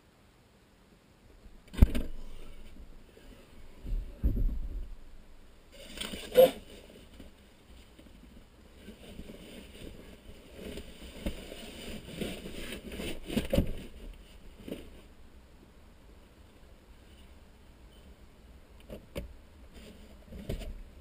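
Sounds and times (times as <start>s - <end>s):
rustling: 1.4s - 21.0s.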